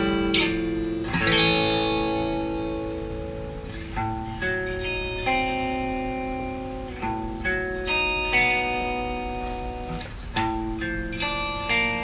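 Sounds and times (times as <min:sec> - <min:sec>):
overdriven electric guitar chords: 0:00.0 - 0:12.0.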